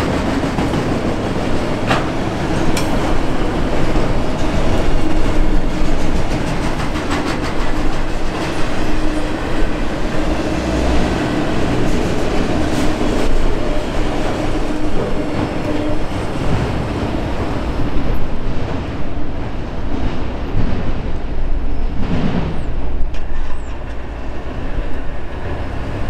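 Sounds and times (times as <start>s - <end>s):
wheels clickety-clack: 0.0s - 21.0s
steel wheels rumbling on rail: 0.0s - 26.0s.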